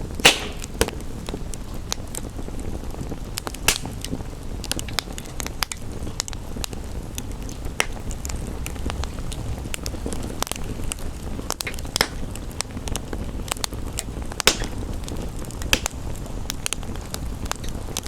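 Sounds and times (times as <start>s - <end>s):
background hiss: 0.0s - 18.0s
wood fire crackling: 0.0s - 18.0s.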